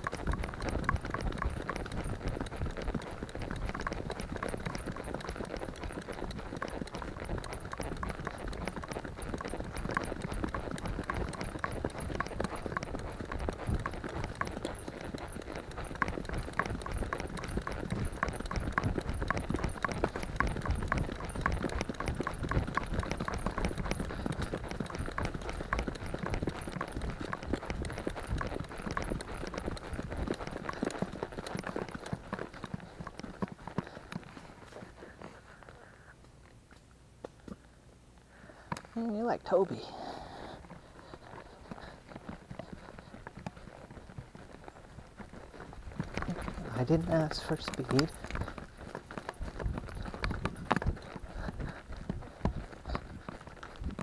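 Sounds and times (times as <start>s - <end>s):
horse hooves clip-clopping: 0.0s - 54.0s.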